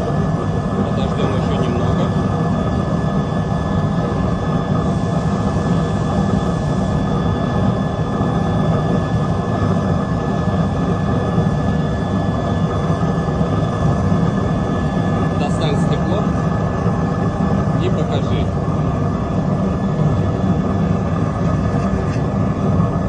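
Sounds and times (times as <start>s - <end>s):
thin constant whistle: 0.0s - 21.3s
fire roaring: 0.0s - 23.0s.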